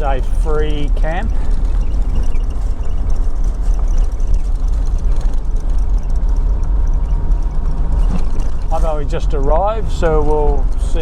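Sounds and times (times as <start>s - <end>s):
vehicle driving on dirt track: 0.0s - 11.0s.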